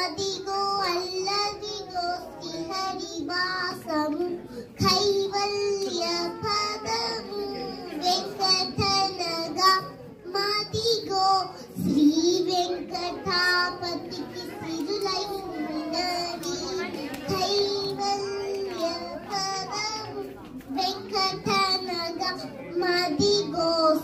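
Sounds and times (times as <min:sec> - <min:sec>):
girl singing: 0:00.0 - 0:20.2, 0:20.8 - 0:24.0.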